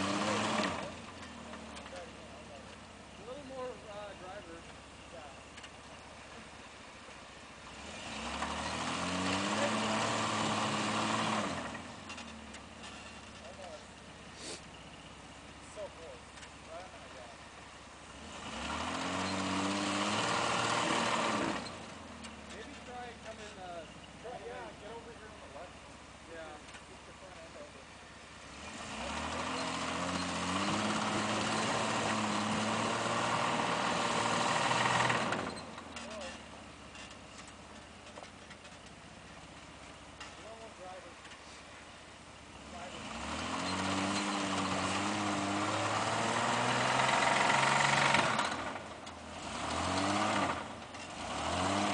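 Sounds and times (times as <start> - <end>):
truck engine revving: 0.0 - 41.8, 42.4 - 51.9.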